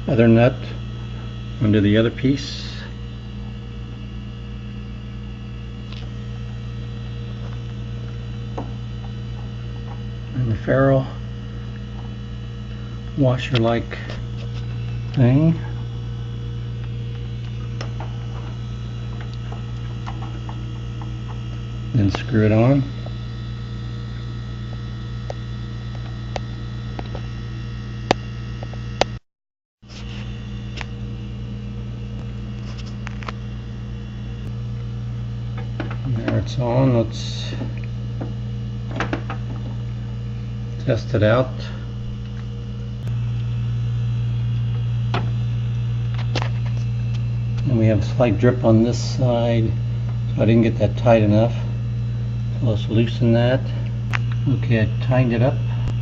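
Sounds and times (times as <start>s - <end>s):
low electrical hum: 0.0s - 29.2s, 29.9s - 56.0s.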